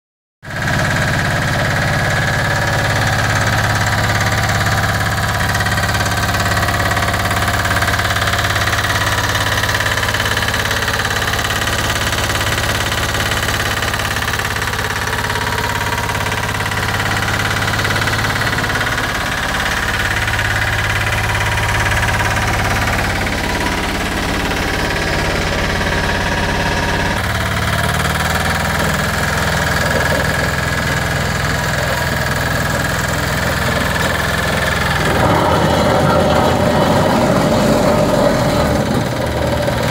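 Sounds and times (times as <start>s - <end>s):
small diesel engine running: 0.4s - 39.9s.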